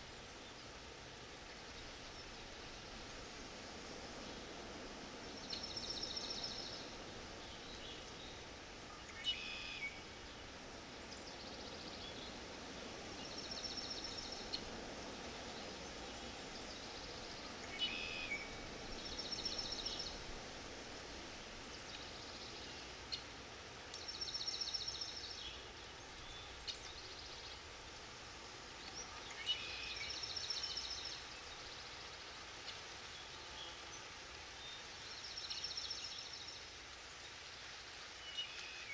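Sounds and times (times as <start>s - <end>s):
soft background hiss: 0.0s - 38.9s.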